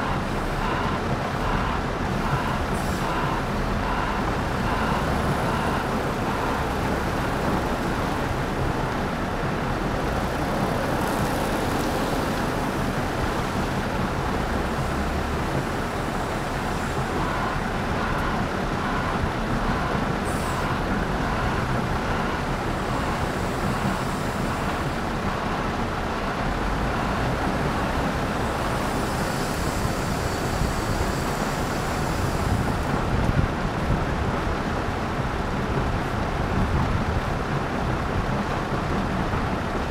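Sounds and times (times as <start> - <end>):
diesel engine working: 0.0 - 39.9.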